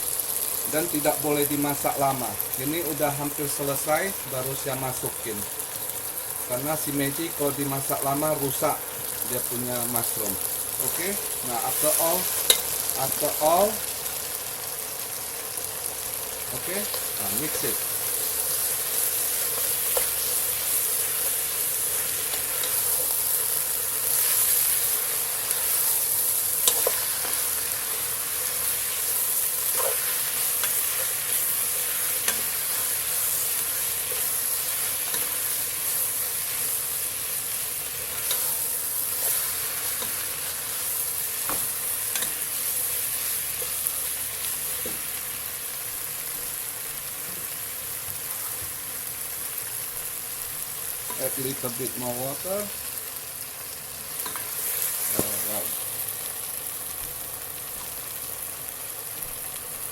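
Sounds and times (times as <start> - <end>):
food sizzling in a hot pan: 0.0 - 59.9.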